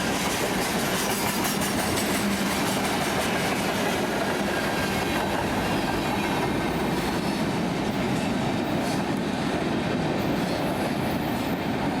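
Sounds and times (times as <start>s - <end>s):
freight train rolling past: 0.0s - 12.0s.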